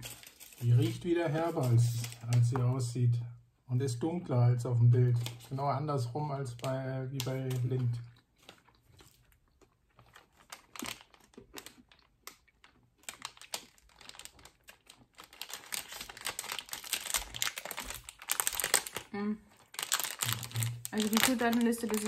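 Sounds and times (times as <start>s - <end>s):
plastic wrapper crinkling: 0.0s - 2.8s, 5.0s - 22.0s.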